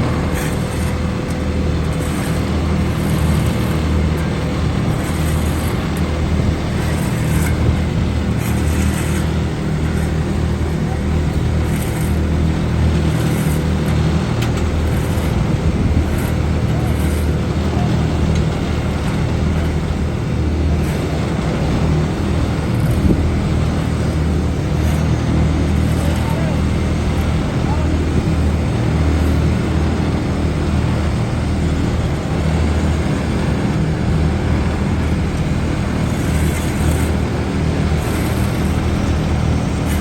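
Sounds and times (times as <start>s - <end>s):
paving machinery engines droning: 0.0s - 40.0s.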